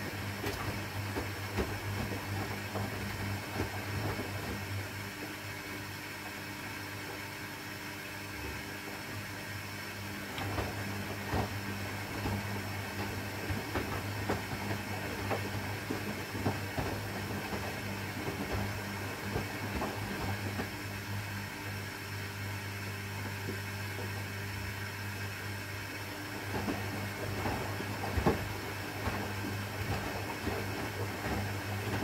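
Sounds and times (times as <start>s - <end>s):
washing machine motor hum: 0.0s - 32.0s.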